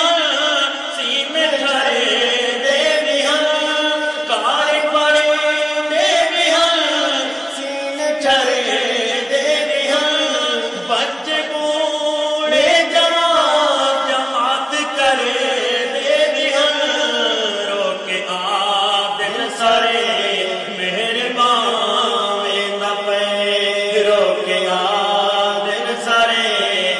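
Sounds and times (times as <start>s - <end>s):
men singing in chanting style: 0.0s - 26.9s.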